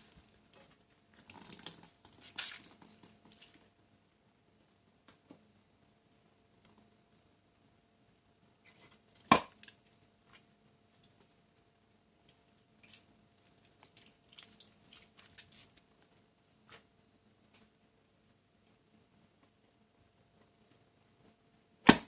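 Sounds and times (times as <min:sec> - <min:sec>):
faint crackles and rustles: 0:00.0 - 0:03.8, 0:04.4 - 0:21.7.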